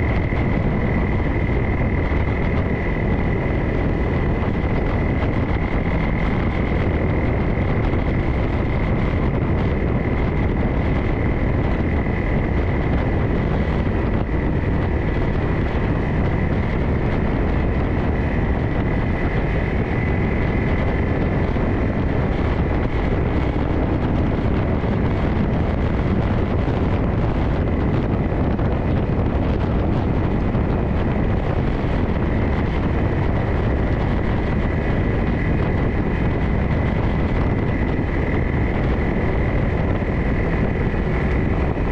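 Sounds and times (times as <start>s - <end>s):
high whine: 0.0s - 41.9s
off-road vehicle engine running: 0.0s - 41.9s
wind noise on microphone: 0.0s - 41.9s.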